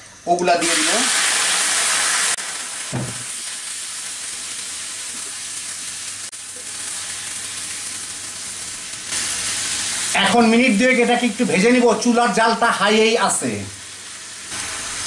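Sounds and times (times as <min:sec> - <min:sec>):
chicken sizzling in hot oil: 0:00.6 - 0:15.0.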